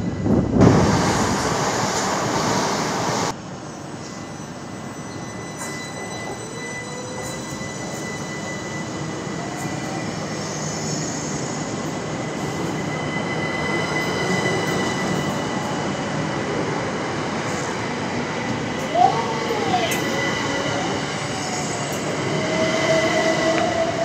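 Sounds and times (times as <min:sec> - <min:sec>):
train wheel and running noise: 0:00.0 - 0:24.0.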